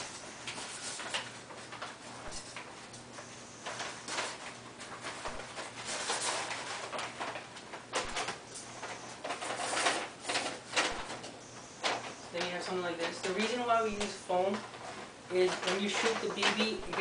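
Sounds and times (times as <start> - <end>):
paper bag rustling and crinkling: 0.0 - 17.0.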